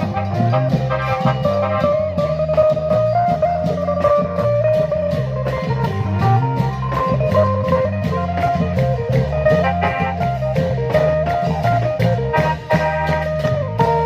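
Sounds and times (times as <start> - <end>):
long drum procession band: 0.0 - 14.0
steady drum beat: 0.0 - 14.0
sustained melody line: 0.0 - 14.0.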